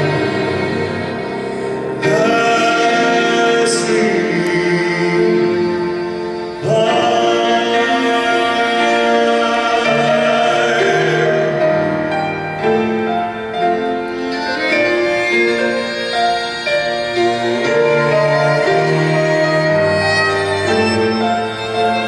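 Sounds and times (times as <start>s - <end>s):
cello and band accompaniment: 0.0s - 22.0s
violin melody: 0.0s - 22.0s.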